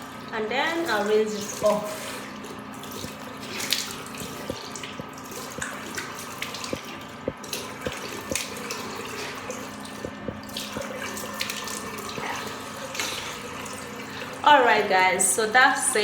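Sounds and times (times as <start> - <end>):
tap water running into sink: 0.0 - 14.9
water splashing face: 0.7 - 14.4.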